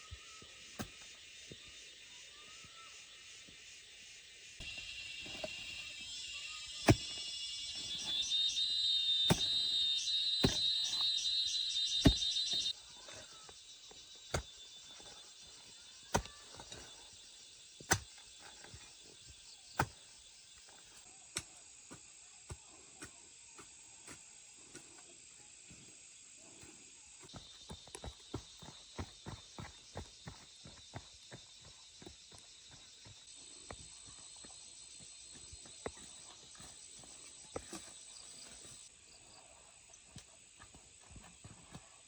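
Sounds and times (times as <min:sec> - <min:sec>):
high pulsing insect drone: 0:00.0 - 0:21.2, 0:24.4 - 0:42.0.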